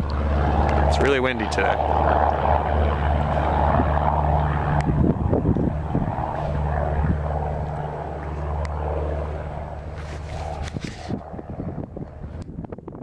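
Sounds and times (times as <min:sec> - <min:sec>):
propeller plane engine droning: 0:00.0 - 0:13.0
wind on microphone: 0:00.0 - 0:13.0.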